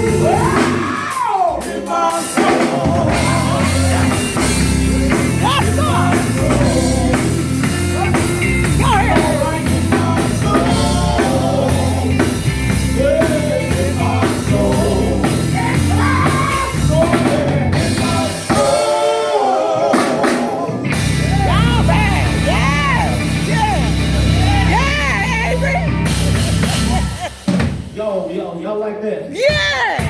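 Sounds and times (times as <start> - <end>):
people singing: 0.0 - 27.5
gospel band playing: 0.0 - 30.0.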